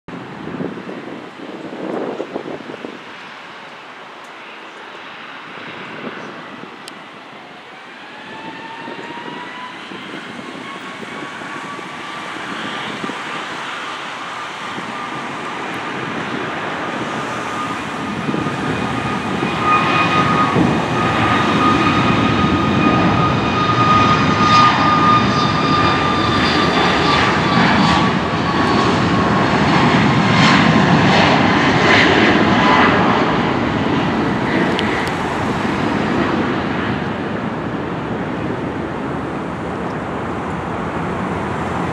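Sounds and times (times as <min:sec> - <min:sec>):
jet engines spooling up: 0:04.4 - 0:41.9.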